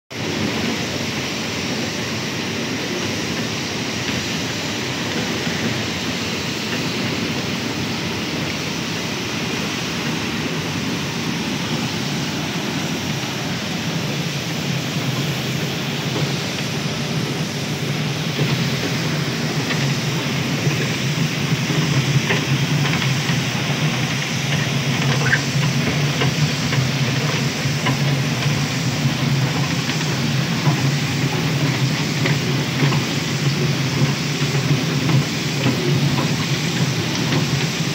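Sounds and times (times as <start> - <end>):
mill machinery din: 4.0 - 37.9.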